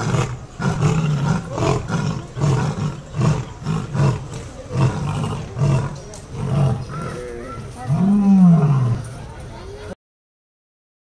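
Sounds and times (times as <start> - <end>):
lion roaring: 0.0 - 9.1.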